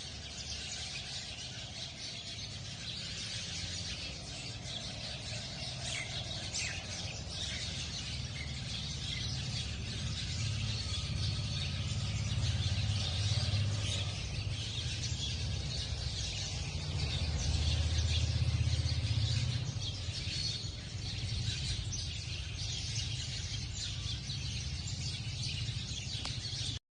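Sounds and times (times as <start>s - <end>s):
sparrows chirping: 0.0s - 26.8s.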